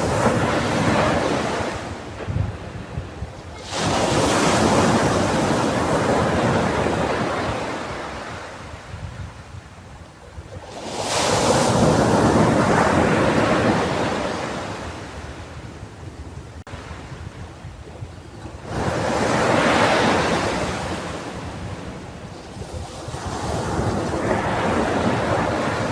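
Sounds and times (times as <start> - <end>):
ocean waves breaking on beach: 0.0 - 25.9.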